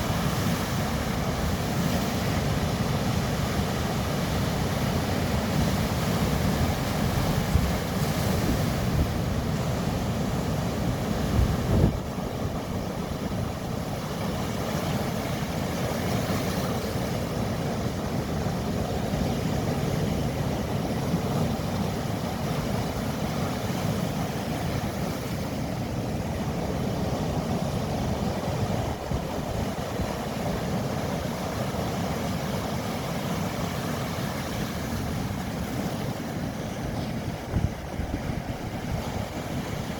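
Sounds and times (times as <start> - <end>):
sea waves washing: 0.0 - 39.9
wind rumbling on microphone: 0.0 - 39.9.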